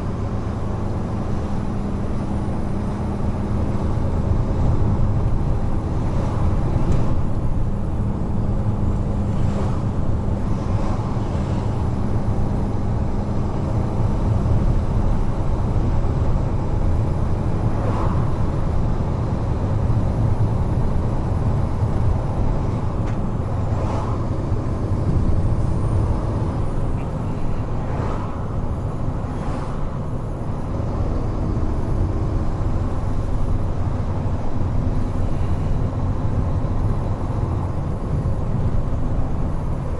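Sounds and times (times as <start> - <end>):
truck diesel engine hum: 0.0 - 39.9
tyre and road noise: 0.0 - 39.9.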